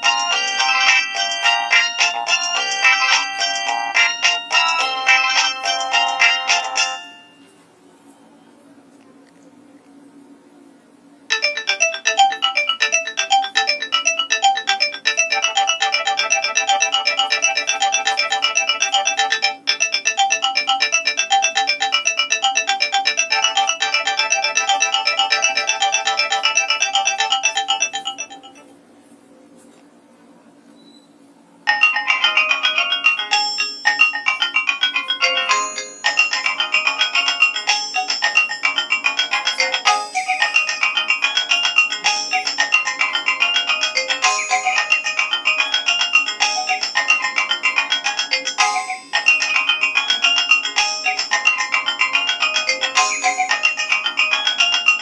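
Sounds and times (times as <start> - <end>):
polyphonic phone ringtone: 0.0 - 7.5, 11.3 - 28.7, 31.7 - 55.0.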